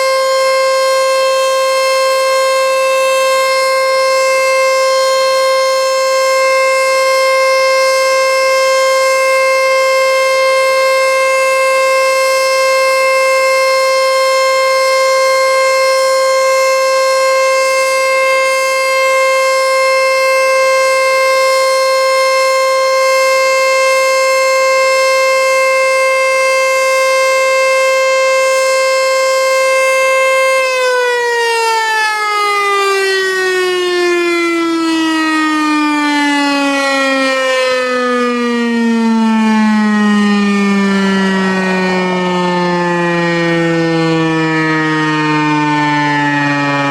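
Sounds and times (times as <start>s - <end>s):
warning siren steady tone: 0.0s - 46.9s.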